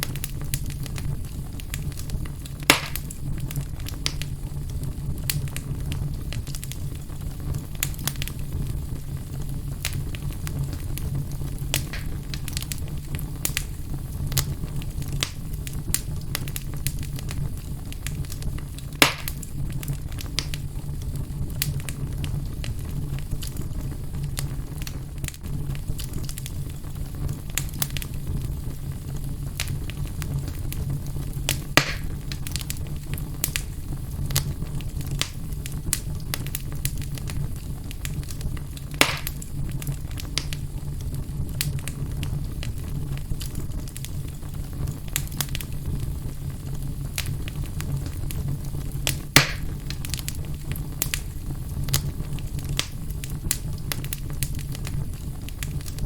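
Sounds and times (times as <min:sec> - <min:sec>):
loud fire pops: 0:00.0 - 0:56.0
wood fire crackling: 0:00.0 - 0:56.0.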